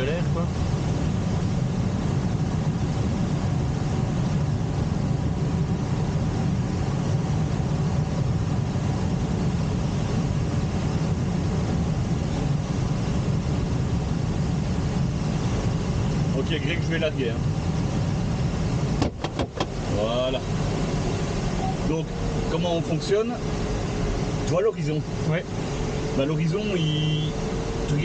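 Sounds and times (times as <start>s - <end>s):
air rushing over canopy: 0.0s - 28.0s
tow plane engine drone: 0.0s - 28.0s.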